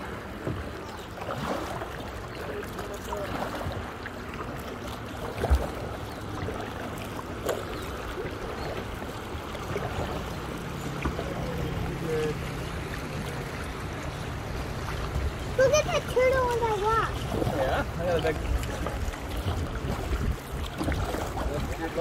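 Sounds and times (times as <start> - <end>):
water splashing around a kayak: 0.0 - 22.0.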